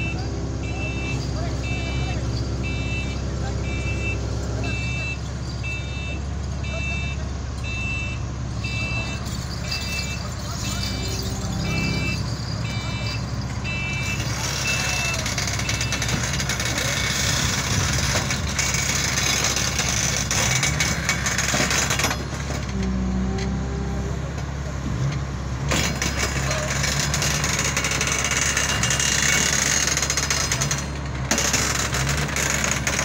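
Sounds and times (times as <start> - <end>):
excavator diesel engine: 0.0 - 33.0.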